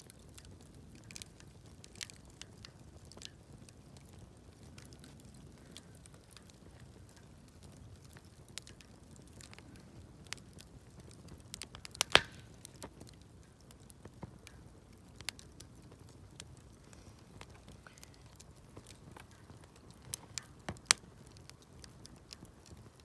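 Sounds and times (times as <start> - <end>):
wood campfire crackling: 0.0 - 23.0.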